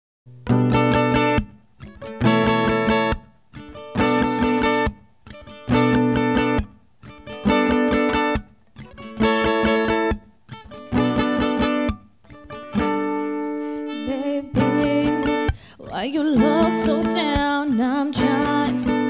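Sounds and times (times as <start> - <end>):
acoustic guitar strumming: 0.3 - 19.0.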